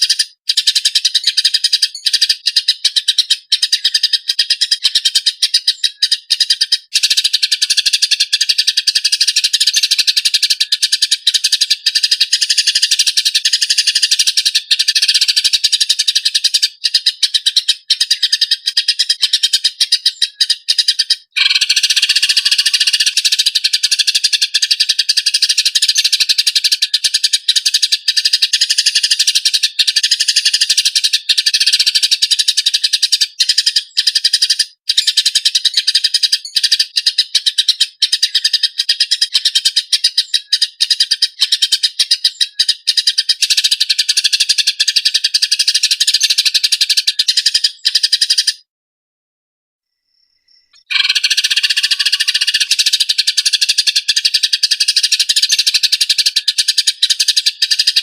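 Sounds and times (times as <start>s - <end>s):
sparrows chirping rapidly: 0.0s - 48.7s, 50.0s - 58.0s.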